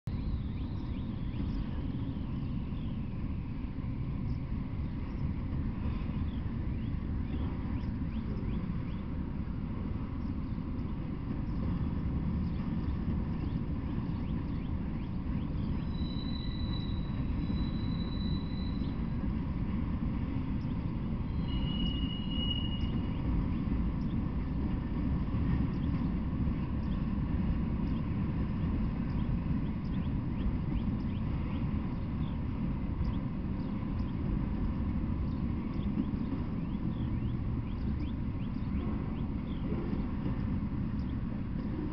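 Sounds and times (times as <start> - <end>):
freight train rumbling past: 0.1 - 41.9.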